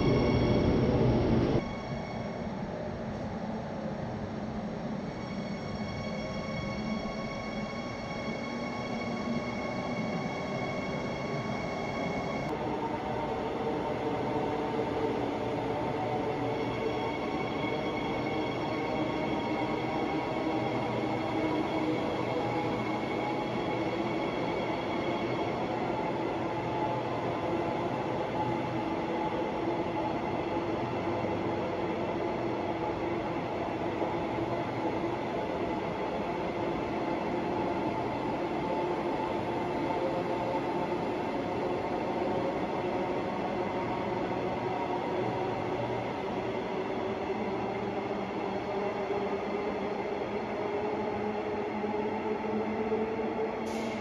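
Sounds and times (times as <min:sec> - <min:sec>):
electric train rolling past: 0:00.0 - 0:54.0.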